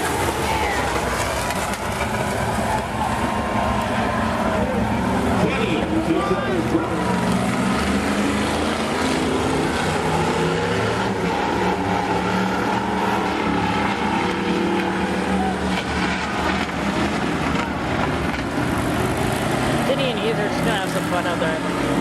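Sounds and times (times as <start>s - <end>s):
race car engines: 0.0s - 22.0s.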